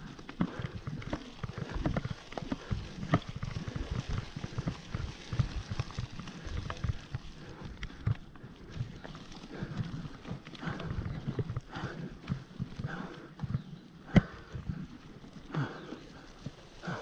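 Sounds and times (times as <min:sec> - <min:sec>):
bike knocking and rattling: 0:00.0 - 0:17.0
tyres rolling over leaves: 0:00.0 - 0:17.0.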